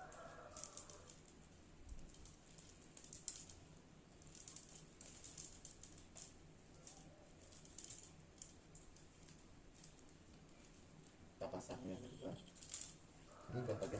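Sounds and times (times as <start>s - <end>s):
bamboo sticks clicking: 0.0s - 11.2s.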